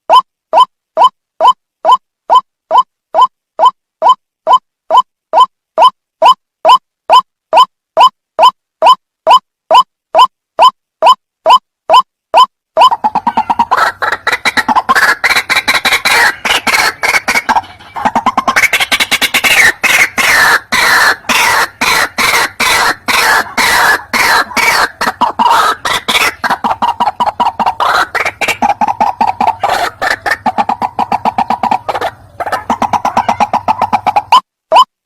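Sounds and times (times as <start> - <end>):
waterhen croaking calls: 0.1 - 34.9.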